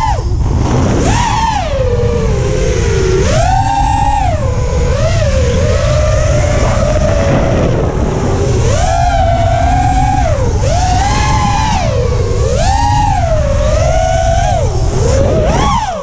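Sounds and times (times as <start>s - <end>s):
quadcopter motors whining: 0.0s - 16.0s
steady low rumble: 0.0s - 16.0s.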